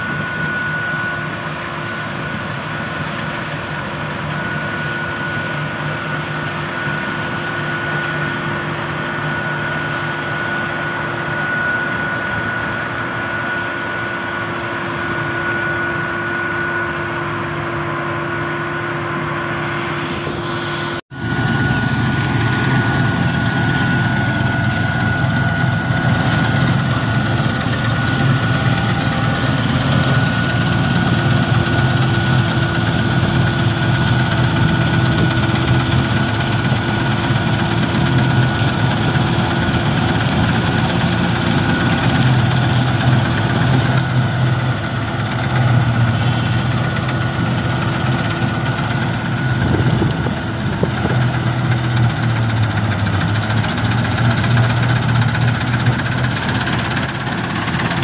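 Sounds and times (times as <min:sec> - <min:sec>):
combine harvester engine drone: 0:00.0 - 0:58.0
thin steady whine: 0:00.0 - 0:58.0.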